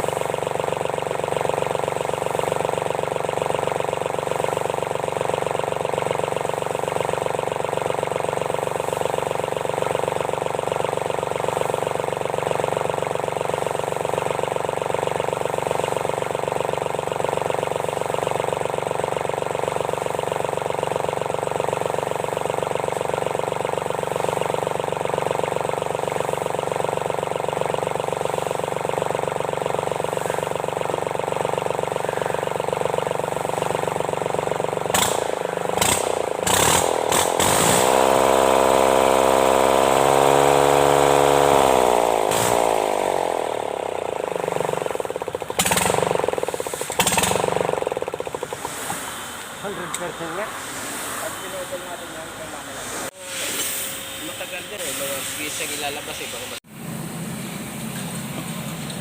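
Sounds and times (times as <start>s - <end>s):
engine knocks: 0.0s - 50.3s
diesel engine idling and revving: 0.0s - 59.0s.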